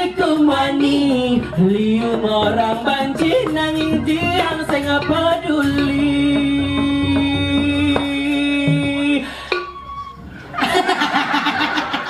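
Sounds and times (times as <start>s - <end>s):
drum beats: 0.0s - 12.0s.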